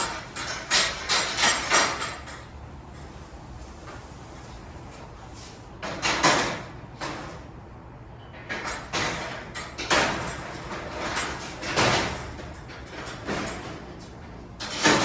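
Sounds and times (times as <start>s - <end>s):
garage door rollers scraping in track: 0.0s - 7.5s, 8.2s - 15.0s.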